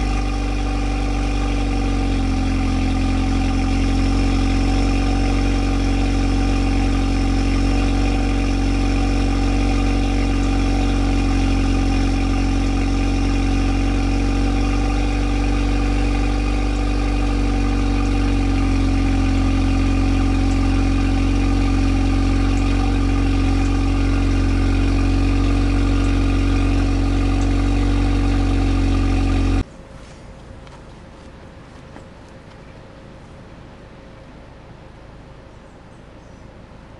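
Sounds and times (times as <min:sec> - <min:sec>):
car exhaust idling: 0:00.0 - 0:36.9.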